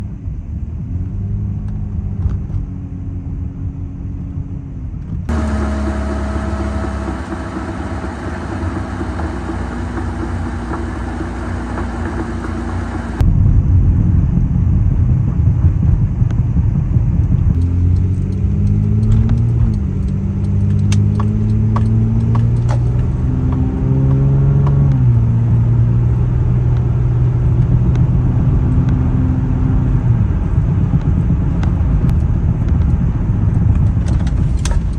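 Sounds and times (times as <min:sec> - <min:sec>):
road noise rumble: 0:00.0 - 0:34.9
car engine accelerating: 0:00.6 - 0:13.3, 0:16.4 - 0:34.9.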